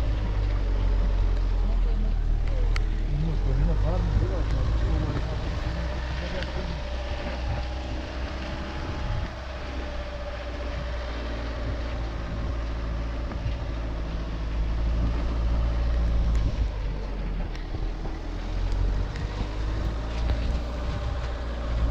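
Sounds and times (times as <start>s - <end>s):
car engine at low speed: 0.0s - 21.9s
tyres rumbling on rough ground: 0.0s - 21.9s.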